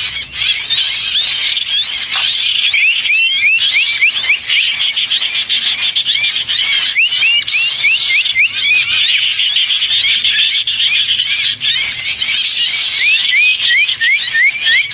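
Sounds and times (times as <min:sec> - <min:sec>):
songbirds chirping: 0:00.0 - 0:14.9.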